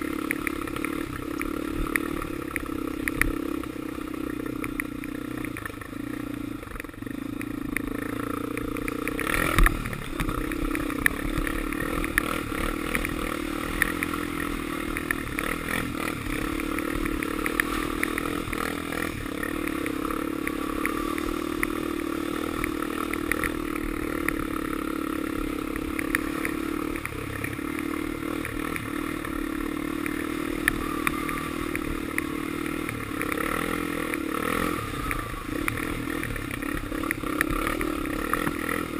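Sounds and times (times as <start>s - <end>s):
quad engine running: 0.0s - 38.9s.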